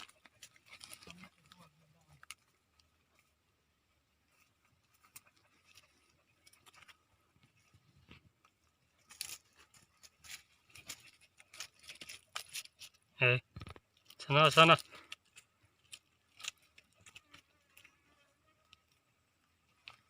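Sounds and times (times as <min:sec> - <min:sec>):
faint crackles and rustles: 0:00.0 - 0:20.0.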